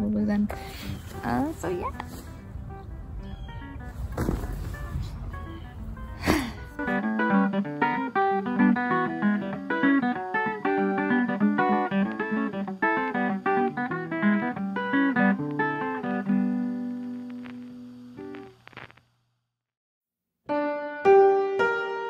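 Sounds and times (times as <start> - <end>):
plucked guitar music: 0.0 - 18.6, 20.5 - 22.0.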